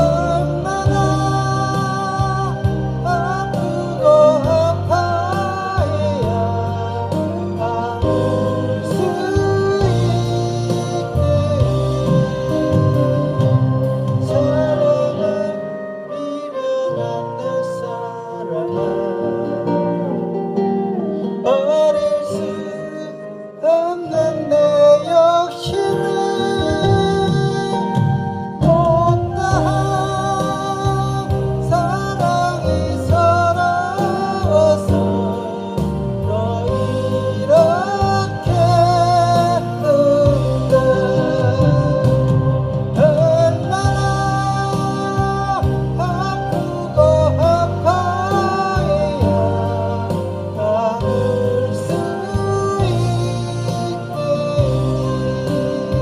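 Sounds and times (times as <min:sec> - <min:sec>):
instrumental accompaniment with bass: 0:00.0 - 0:56.0
person singing: 0:00.0 - 0:56.0.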